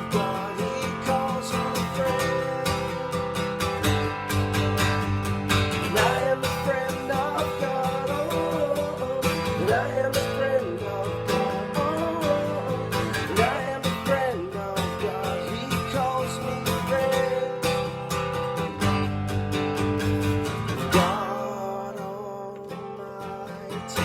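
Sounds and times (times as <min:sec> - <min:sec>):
strummed acoustic guitar: 0:00.0 - 0:24.0.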